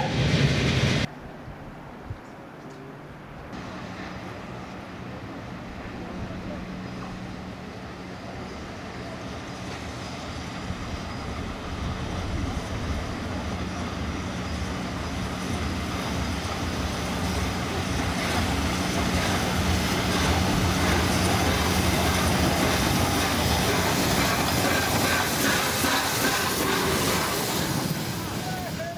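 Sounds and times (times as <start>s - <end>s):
train running on rails: 0.0s - 28.9s.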